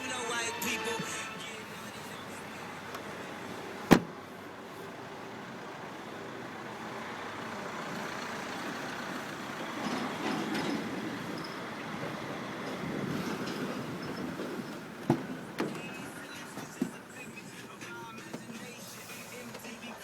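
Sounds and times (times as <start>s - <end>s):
van engine running: 0.0s - 20.0s.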